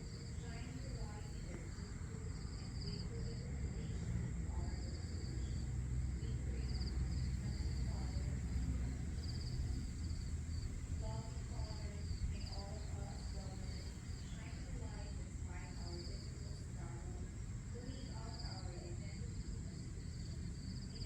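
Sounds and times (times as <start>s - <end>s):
crickets chirping: 0.0s - 21.0s
high insect drone: 0.0s - 21.0s
low background rumble: 0.0s - 21.0s.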